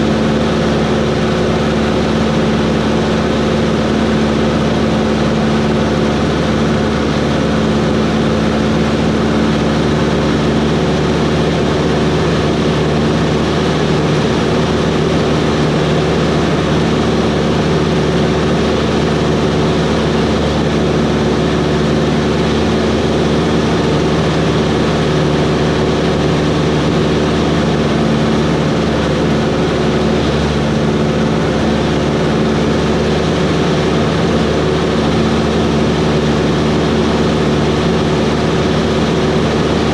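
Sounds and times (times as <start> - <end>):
small plane engine and propeller: 0.0 - 39.9.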